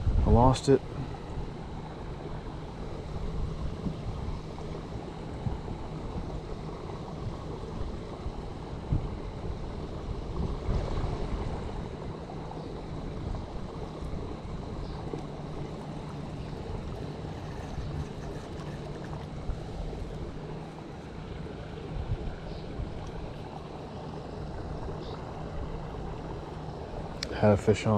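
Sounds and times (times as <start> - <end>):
steady outdoor hiss: 0.0 - 27.9
wind buffeting microphone: 0.0 - 27.9.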